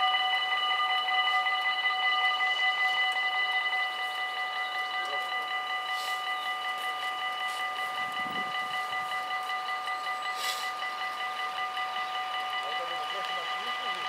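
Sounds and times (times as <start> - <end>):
level crossing warning bells ringing: 0.0 - 14.0.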